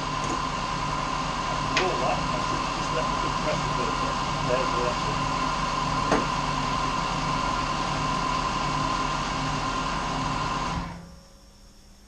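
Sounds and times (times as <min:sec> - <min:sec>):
air compressor running: 0:00.0 - 0:11.2.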